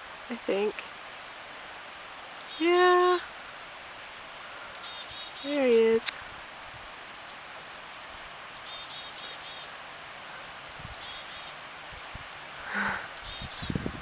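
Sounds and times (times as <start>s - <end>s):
songbirds chirping: 0.0s - 14.0s
steady outdoor hiss: 0.0s - 14.0s.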